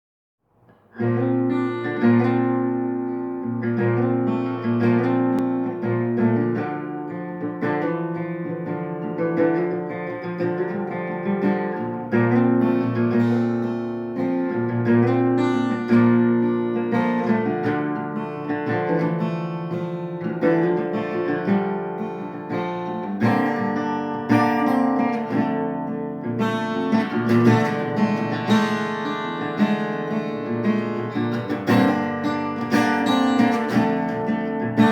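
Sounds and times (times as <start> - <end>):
acoustic guitar playing: 0.6 - 34.9.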